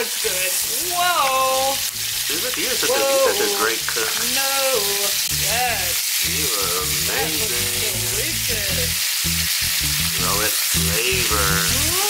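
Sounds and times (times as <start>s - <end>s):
chicken sizzling in skillet: 0.0s - 12.0s.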